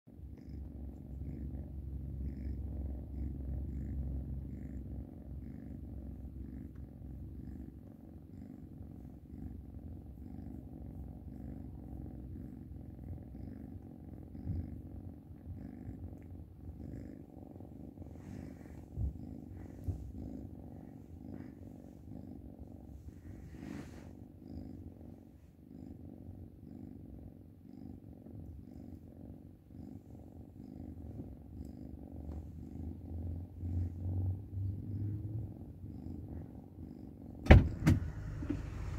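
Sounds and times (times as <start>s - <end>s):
kitten purring: 0.0s - 38.9s.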